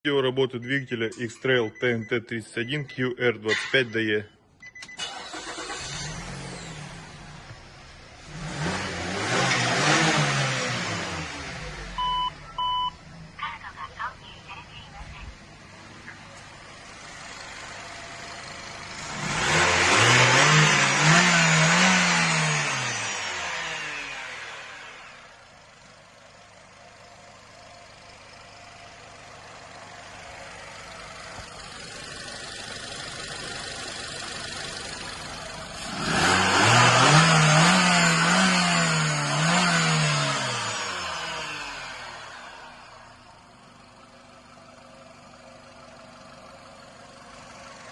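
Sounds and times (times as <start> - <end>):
car engine idling and revving: 4.6 - 47.9.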